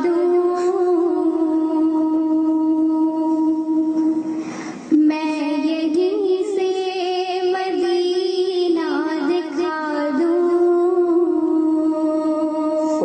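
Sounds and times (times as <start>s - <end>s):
girl singing devotional song: 0.0s - 13.0s.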